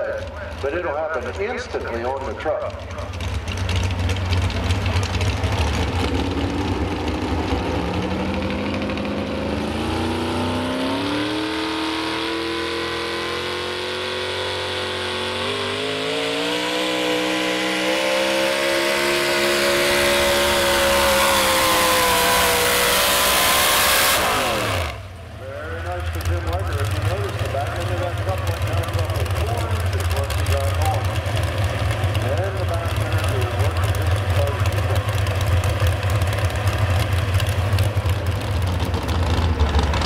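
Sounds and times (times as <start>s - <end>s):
truck engine at full throttle: 0.0s - 40.0s.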